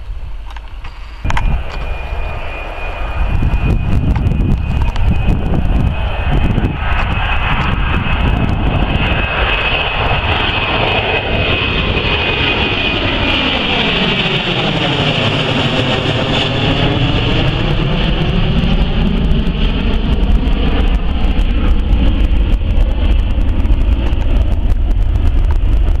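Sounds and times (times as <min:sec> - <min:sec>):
high fan whine: 0:00.0 - 0:26.0
jet engines roaring: 0:00.0 - 0:26.0.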